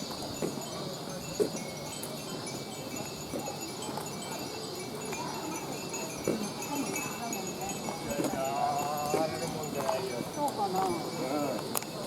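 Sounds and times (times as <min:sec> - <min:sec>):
murmur of voices: 0:00.0 - 0:12.0
wind chimes tinkling: 0:00.0 - 0:12.0.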